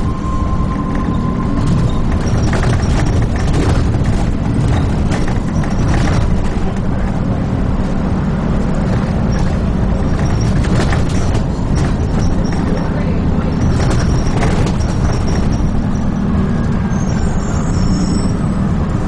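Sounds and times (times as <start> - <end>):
bus body rattling: 0.0 - 19.0
low diesel engine: 0.0 - 19.0
road noise: 0.0 - 19.0.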